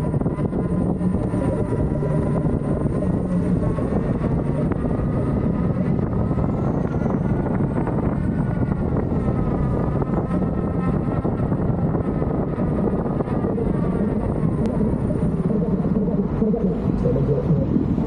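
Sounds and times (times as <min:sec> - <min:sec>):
faint wavering whine: 0:00.0 - 0:18.0
wind buffeting microphone: 0:00.0 - 0:18.0.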